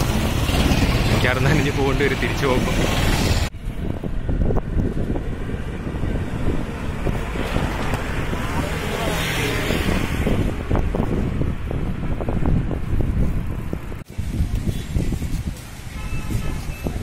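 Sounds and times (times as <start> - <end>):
road traffic: 0.0 - 17.0
wind buffeting microphone: 0.0 - 17.0.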